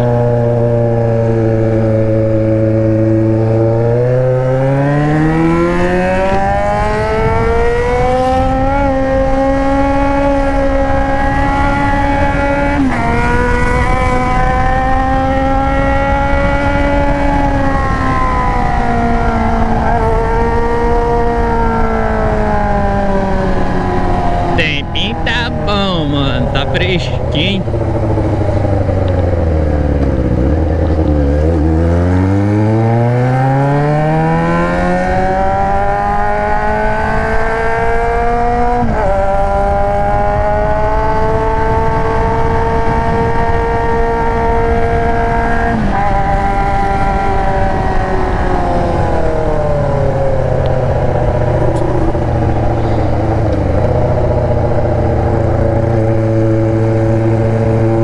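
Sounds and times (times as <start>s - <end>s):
motorcycle engine accelerating: 0.0s - 25.6s, 27.6s - 58.0s.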